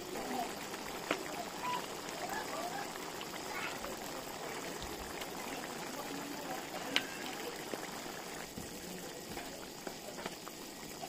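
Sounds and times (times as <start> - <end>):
sauce bubbling in a frying pan: 0.0 - 11.0.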